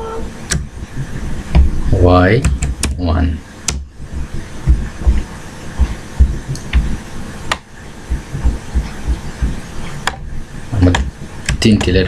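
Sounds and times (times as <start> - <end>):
dull low thumps: 0.5 - 3.1, 3.7 - 12.0.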